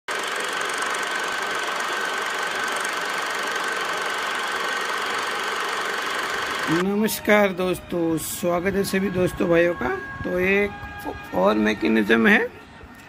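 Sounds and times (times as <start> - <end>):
thin high whine: 0.1 - 13.0.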